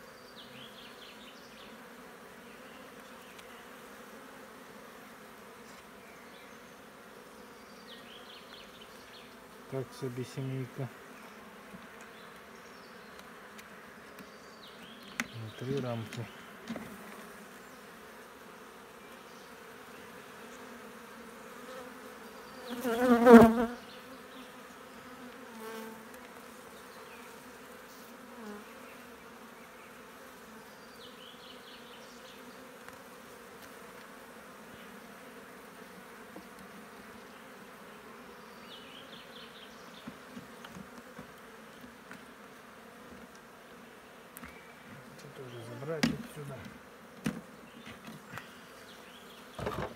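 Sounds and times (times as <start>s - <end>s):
bee flying past buzzing: 0.0s - 49.9s
bees humming from hive: 0.0s - 49.9s.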